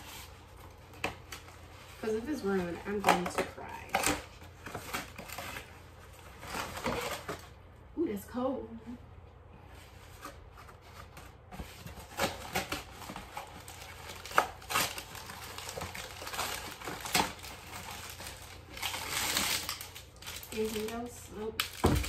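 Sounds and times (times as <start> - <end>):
plastic packaging crinkling: 0.0 - 7.6, 10.4 - 22.0.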